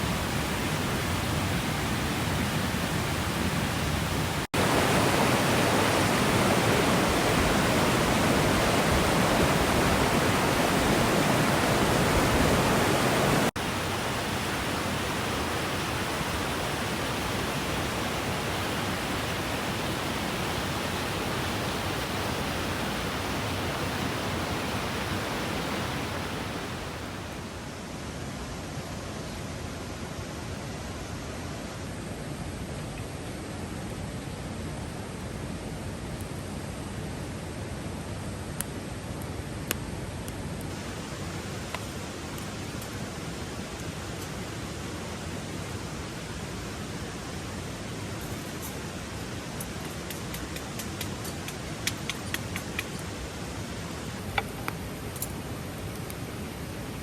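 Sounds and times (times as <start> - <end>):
mountain stream rushing over rocks: 0.0 - 57.0.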